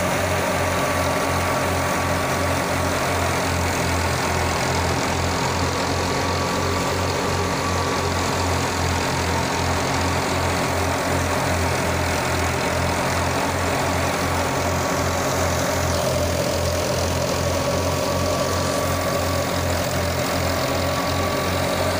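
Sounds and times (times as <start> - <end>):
thresher drum and blower whir: 0.0 - 21.9
tractor diesel engine running: 0.0 - 21.9.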